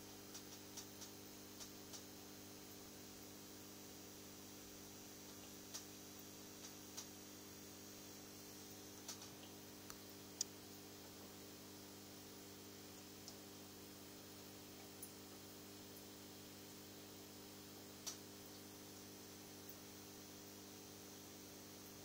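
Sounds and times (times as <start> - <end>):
faint irregular ticks: 0.0 - 16.1, 18.0 - 20.4.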